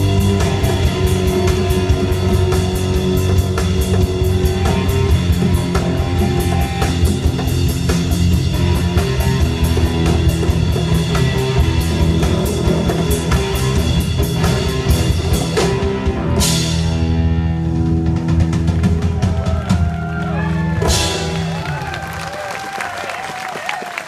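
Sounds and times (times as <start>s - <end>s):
drum kit beat: 0.0s - 22.8s
bass guitar: 0.0s - 23.0s
electric guitars: 0.0s - 23.0s.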